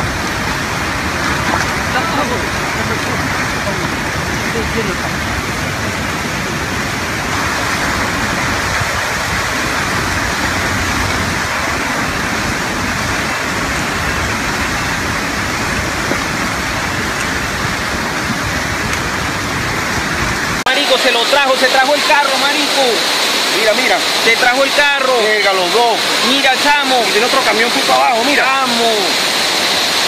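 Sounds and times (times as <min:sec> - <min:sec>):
torrent of water rushing: 0:00.0 - 0:30.0.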